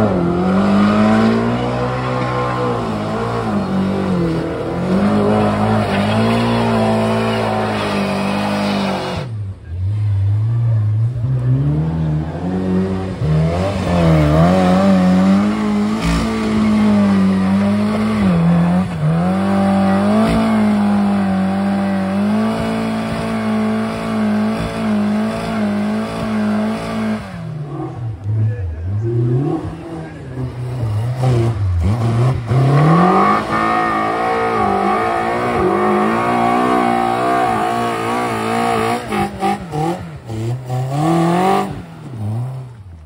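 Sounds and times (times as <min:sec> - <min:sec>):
car engines revving hard: 0:00.0 - 0:43.0.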